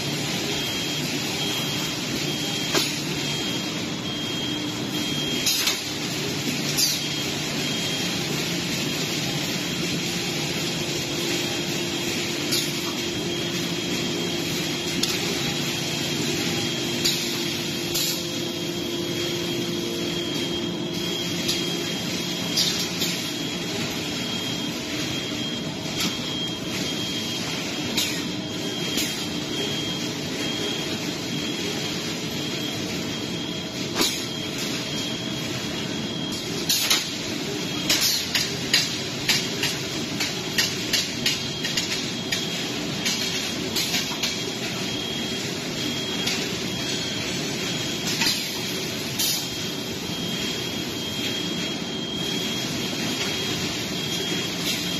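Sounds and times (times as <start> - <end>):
machine hum with high whine: 0.0 - 54.9.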